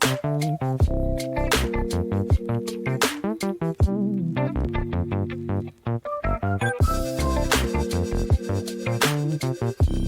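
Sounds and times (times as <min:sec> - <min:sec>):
instrumental guitar music with beat: 0:00.0 - 0:10.0.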